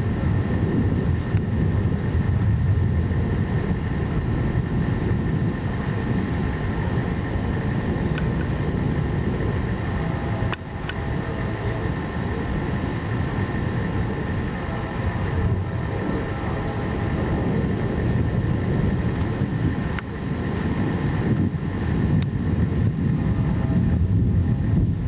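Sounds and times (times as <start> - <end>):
thunderstorm rumble: 0.0 - 25.0.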